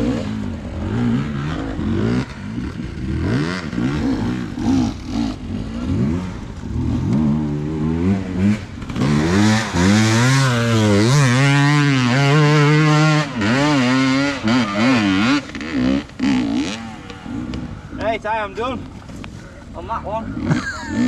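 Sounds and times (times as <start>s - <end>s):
dirt bike engine revving: 0.0s - 18.5s, 20.2s - 21.0s.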